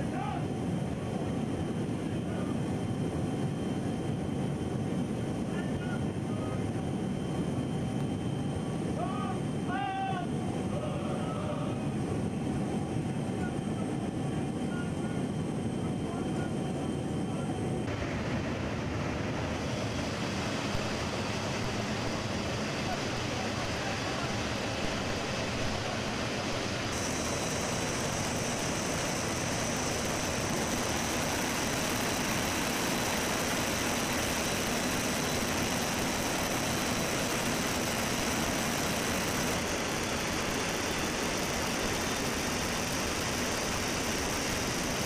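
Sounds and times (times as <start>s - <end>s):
aircraft cabin engine noise: 0.0s - 45.0s.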